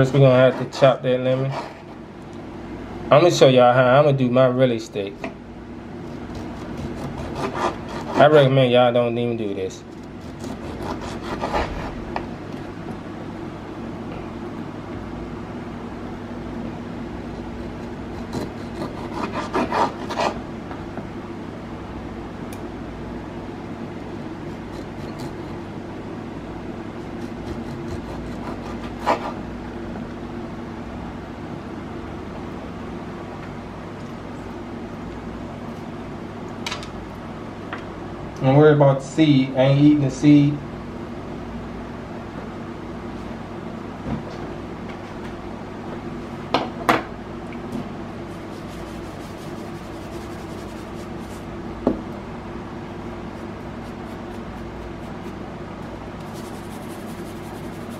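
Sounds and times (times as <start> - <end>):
low room hum: 0.0 - 57.9.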